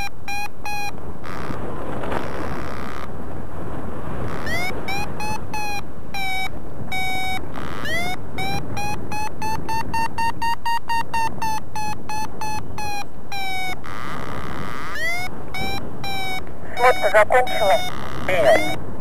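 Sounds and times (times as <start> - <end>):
variometer chirping beeps: 0.0 - 1.6, 4.2 - 18.8
wind noise: 0.0 - 19.0.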